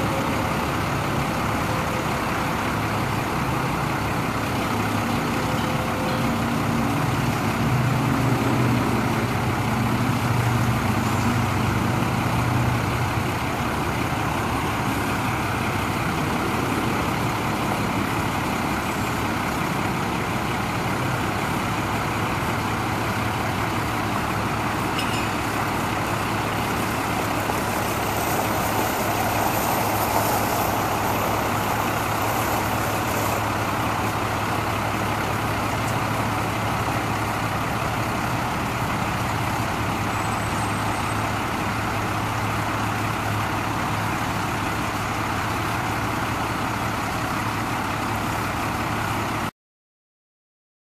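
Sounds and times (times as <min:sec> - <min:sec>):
diesel truck engine running: 0:00.0 - 0:49.5.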